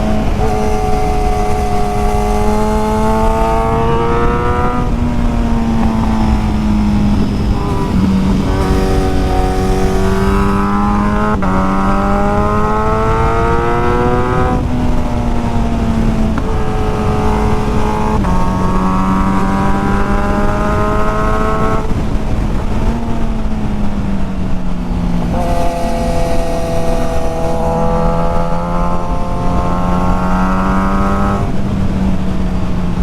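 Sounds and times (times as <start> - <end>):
motorcycle engine accelerating: 0.0 - 33.0
wind and road noise: 0.0 - 33.0.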